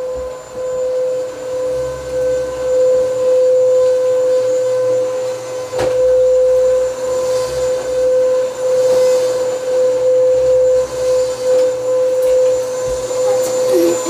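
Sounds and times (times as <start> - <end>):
vacuum cleaner whine: 0.0 - 14.0.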